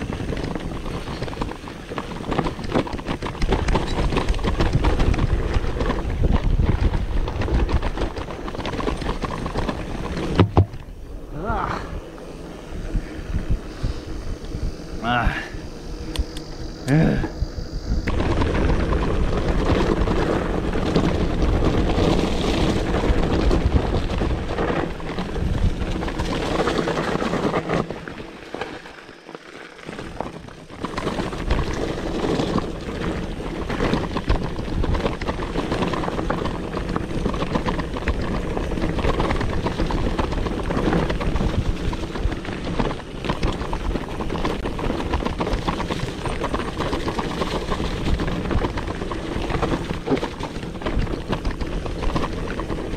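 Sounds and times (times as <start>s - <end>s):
bike knocks and rattles: 0.0s - 14.6s, 18.0s - 52.9s
tyres rushing on dirt: 0.0s - 16.1s, 16.7s - 52.9s
wind buffeting microphone: 0.0s - 28.9s, 30.0s - 52.9s.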